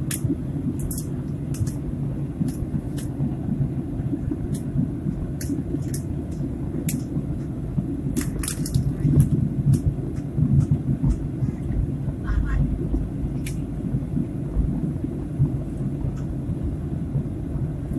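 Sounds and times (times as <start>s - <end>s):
airliner engine rumble: 0.0s - 17.9s.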